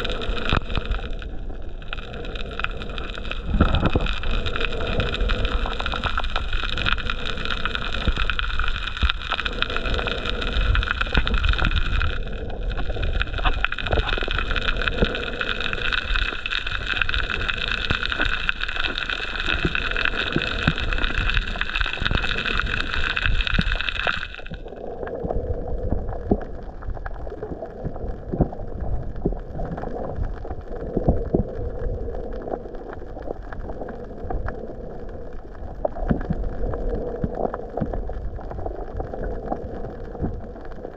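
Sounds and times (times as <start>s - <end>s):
muffled underwater rumble: 0.0s - 40.9s
small crackles and gurgles: 0.0s - 40.9s.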